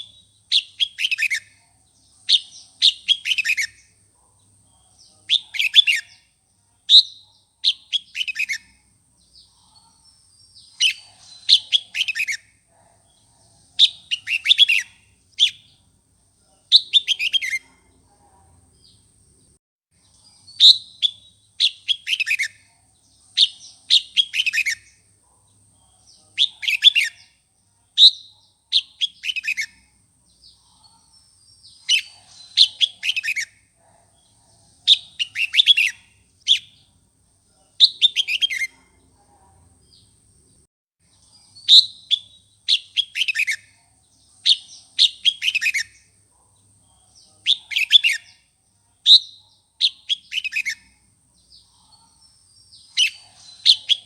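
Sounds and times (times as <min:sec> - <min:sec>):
bird warbling song: 0:00.0 - 0:06.3, 0:06.9 - 0:15.8, 0:16.6 - 0:17.8, 0:20.0 - 0:27.4, 0:28.0 - 0:36.9, 0:37.8 - 0:39.0, 0:41.1 - 0:54.0.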